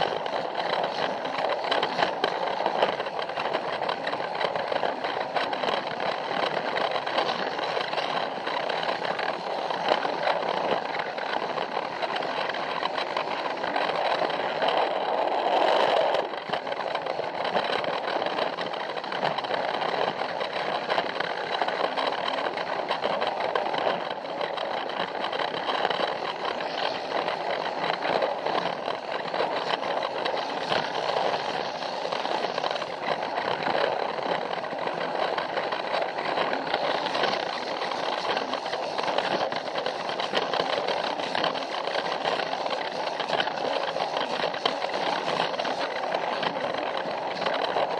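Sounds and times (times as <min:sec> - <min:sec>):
toy train motor whirring rattle: 0:00.0 - 0:47.9
wheels clicking over track joints: 0:00.0 - 0:47.9.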